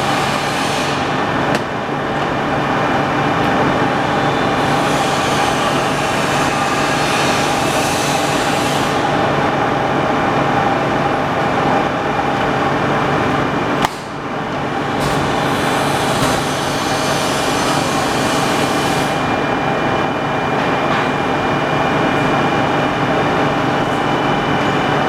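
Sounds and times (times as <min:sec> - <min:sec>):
lathe whining and humming: 0:00.0 - 0:25.0.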